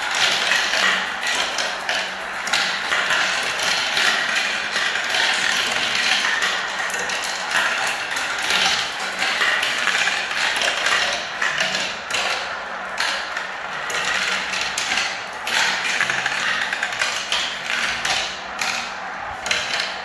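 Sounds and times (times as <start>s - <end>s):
balls rattling down marble run: 0.1s - 20.0s.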